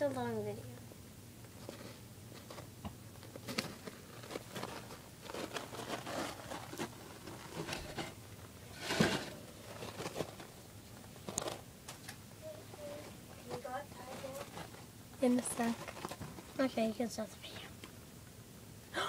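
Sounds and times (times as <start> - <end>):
guinea pig scuffle: 1.4 - 17.8.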